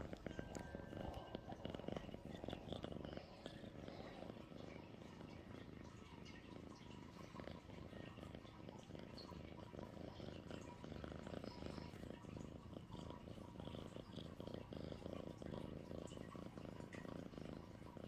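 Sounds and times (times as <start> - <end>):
kitten purring: 0.0 - 18.0.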